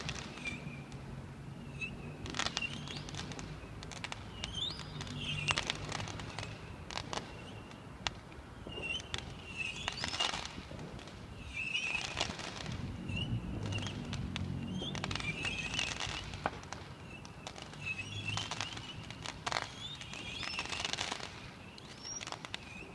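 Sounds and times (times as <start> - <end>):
chirping crackle of fireworks: 0.0 - 22.9
distant fireworks bangs and pops: 0.0 - 22.9.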